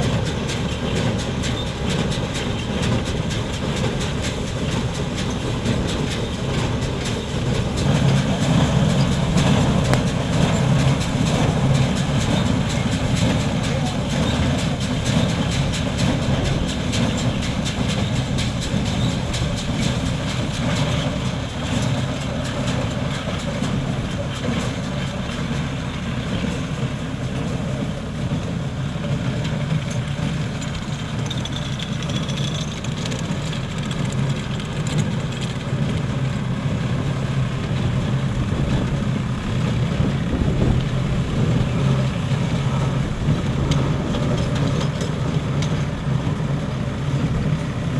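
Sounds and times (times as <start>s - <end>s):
farm machine engine humming: 0.0s - 47.9s.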